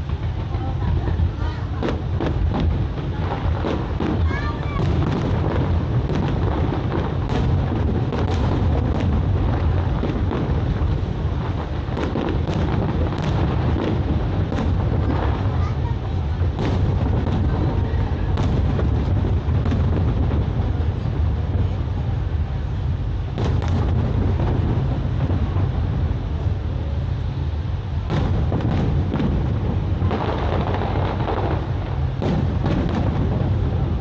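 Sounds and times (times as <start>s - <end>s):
fireworks bangs: 0.0s - 34.0s
fireworks crackling: 0.0s - 34.0s
fireworks rumble: 0.0s - 34.0s.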